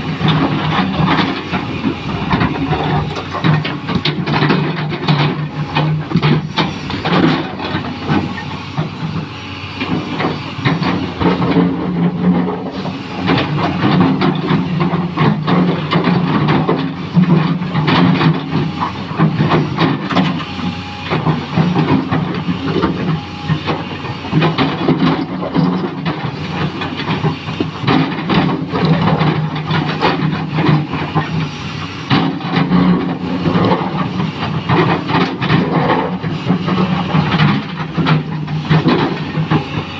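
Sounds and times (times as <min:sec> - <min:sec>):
excavator diesel engine: 0:00.0 - 0:39.9
knocks and rattles of digging: 0:00.0 - 0:39.9.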